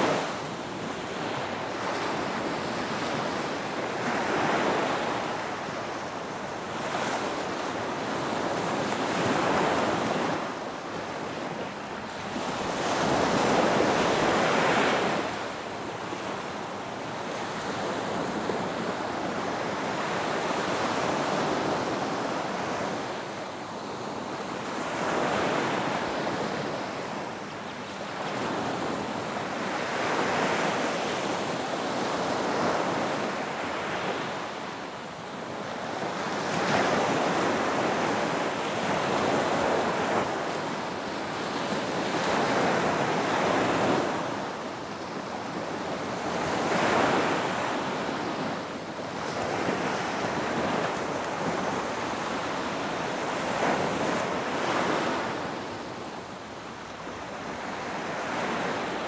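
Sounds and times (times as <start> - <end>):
ocean surf breaking on a beach: 0.0 - 59.0.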